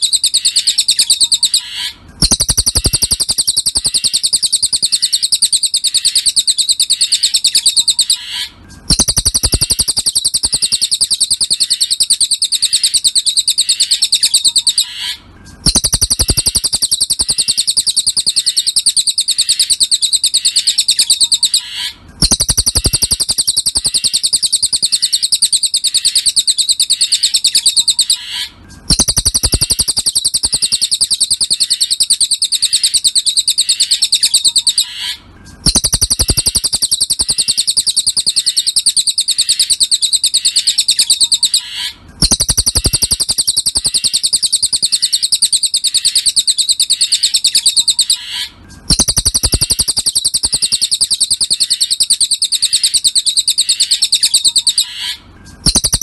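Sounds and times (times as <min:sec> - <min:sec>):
bird trilling song: 0:00.0 - 0:56.0.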